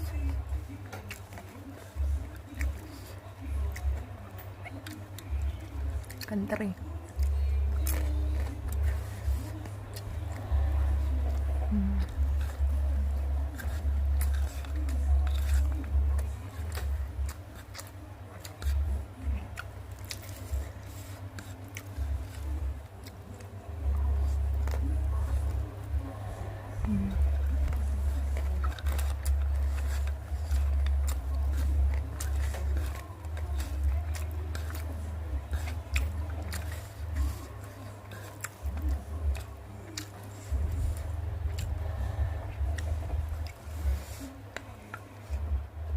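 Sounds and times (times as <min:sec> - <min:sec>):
chewing crunchy food: 0:00.0 - 0:45.9.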